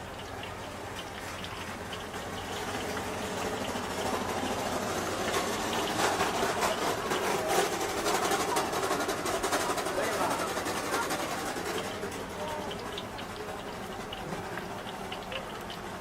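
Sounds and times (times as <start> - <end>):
food hissing and crackling in pot: 0.0 - 16.0.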